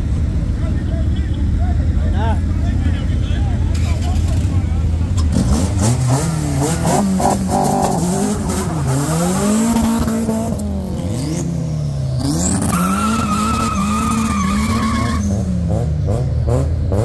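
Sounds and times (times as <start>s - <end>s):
car engine revving: 2.0s - 17.0s.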